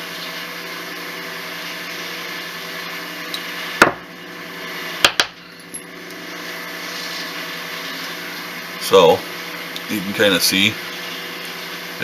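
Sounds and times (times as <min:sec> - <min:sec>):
steady low hum: 0:01.9 - 0:12.0.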